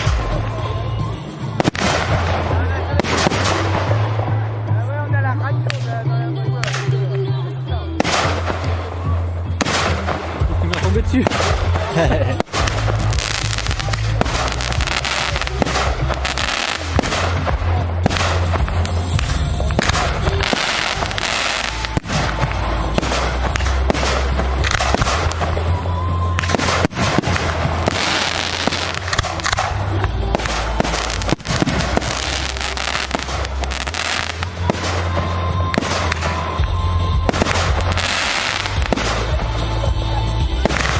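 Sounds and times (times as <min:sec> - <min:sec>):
fireworks bursting: 0:00.0 - 0:04.9, 0:06.5 - 0:40.9.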